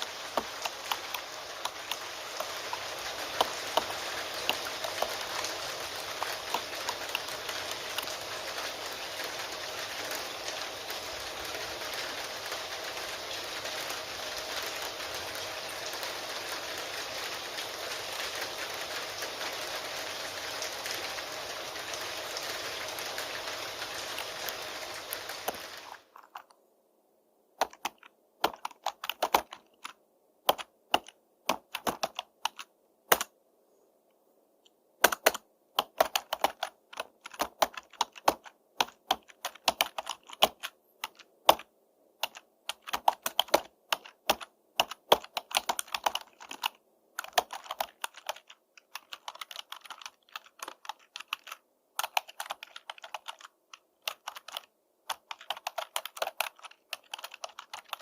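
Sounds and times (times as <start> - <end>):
typing on computer keyboard: 0.0 - 20.0, 27.6 - 33.3, 35.0 - 58.0.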